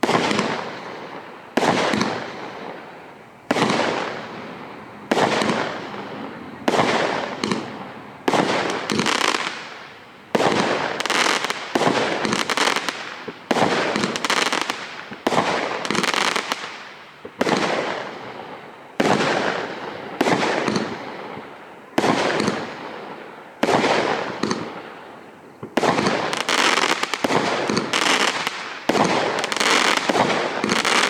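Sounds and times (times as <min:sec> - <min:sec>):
firework bangs with crackle: 0:00.0 - 0:31.0.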